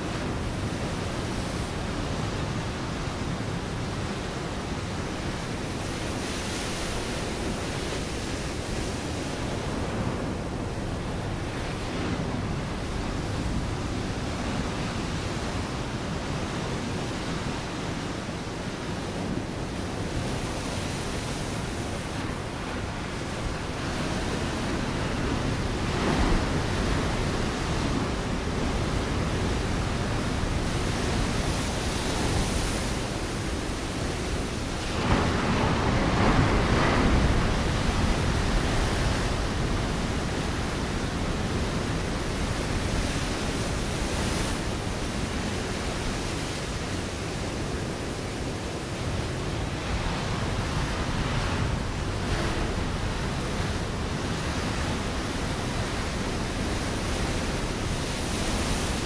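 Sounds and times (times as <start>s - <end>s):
ocean waves breaking on rocks: 0.0s - 59.0s.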